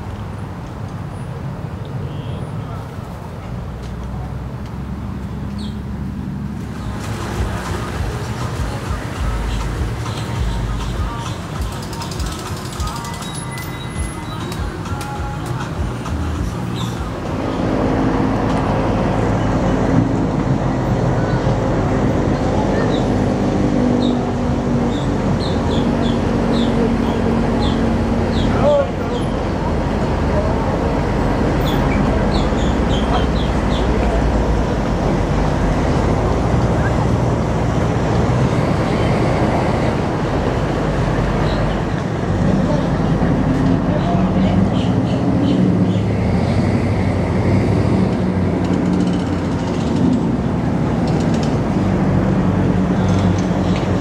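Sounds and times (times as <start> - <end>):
constant rushing noise: 6.6 - 54.0.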